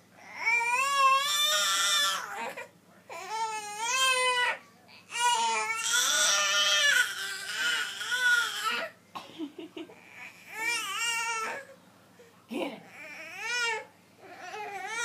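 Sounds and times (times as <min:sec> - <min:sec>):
baby crying: 0:00.2 - 0:09.0, 0:10.0 - 0:11.7, 0:12.8 - 0:15.0.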